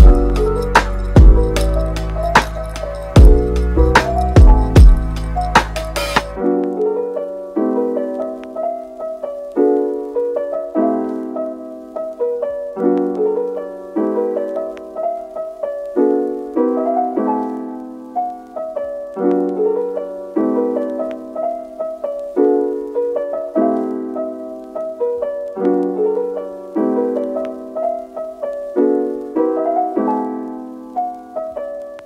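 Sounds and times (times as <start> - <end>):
slow piano chords: 0.0 - 32.0.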